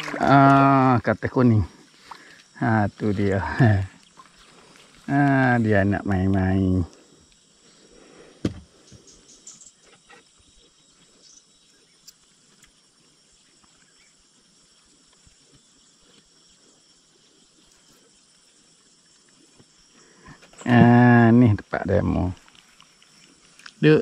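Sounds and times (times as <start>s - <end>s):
faint high insect drone: 0.0s - 24.0s.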